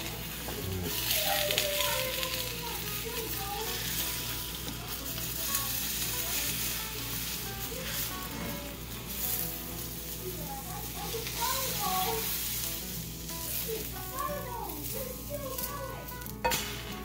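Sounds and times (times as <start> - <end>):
egg sizzling in oil: 0.0 - 17.0.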